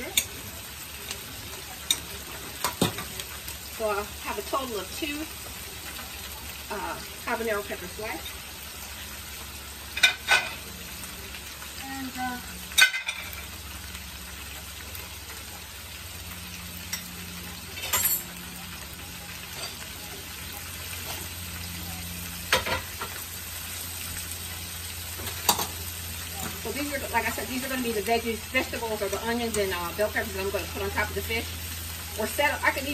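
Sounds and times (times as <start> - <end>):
vegetables sizzling in a pan: 0.0 - 32.9.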